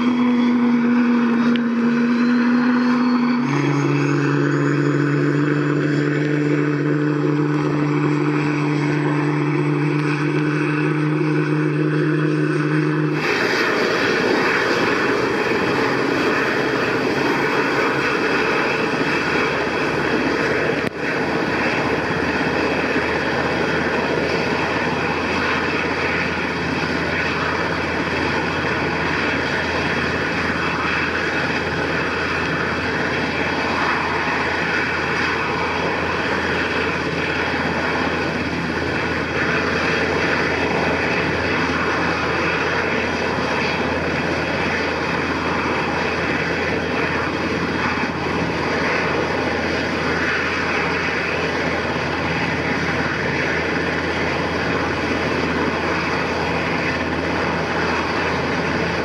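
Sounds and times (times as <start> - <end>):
helicopter rotor noise: 0.0 - 59.0
helicopter turbine engine whine: 0.0 - 59.0.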